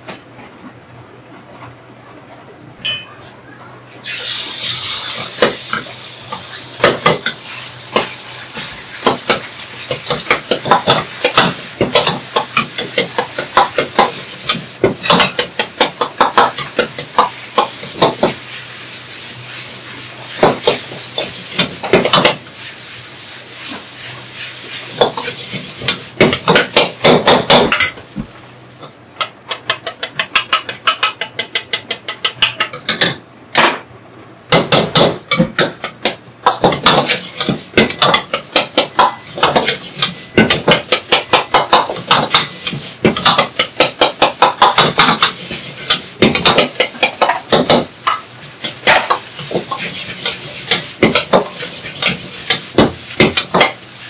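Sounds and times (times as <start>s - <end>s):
food sizzling: 3.9s - 33.1s, 34.5s - 54.0s.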